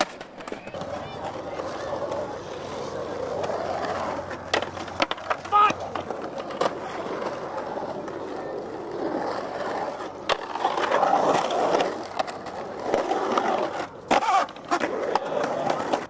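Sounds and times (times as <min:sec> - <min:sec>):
skateboard clacking on concrete: 0:00.0 - 0:16.0
skateboard wheels rolling on concrete: 0:00.0 - 0:16.0.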